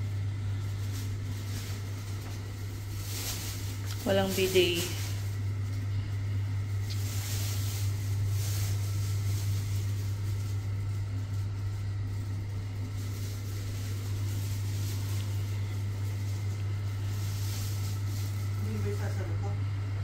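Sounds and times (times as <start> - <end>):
room ventilation hum: 0.0 - 20.0.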